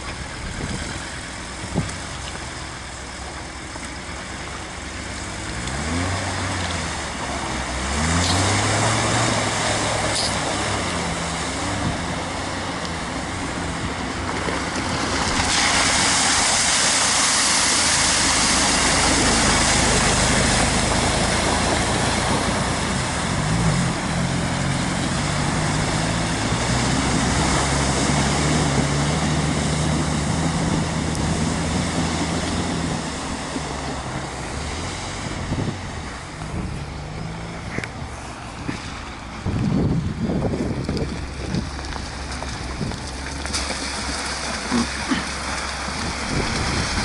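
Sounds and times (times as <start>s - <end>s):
vehicle engine under load: 0.0s - 47.0s.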